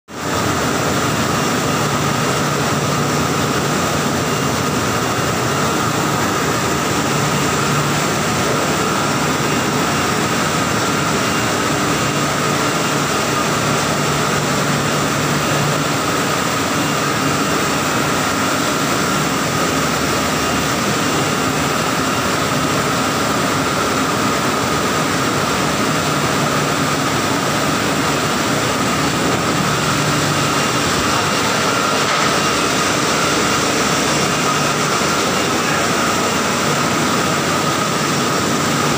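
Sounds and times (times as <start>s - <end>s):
washing machine churning water: 0.1s - 38.9s
constant whine: 0.2s - 38.9s.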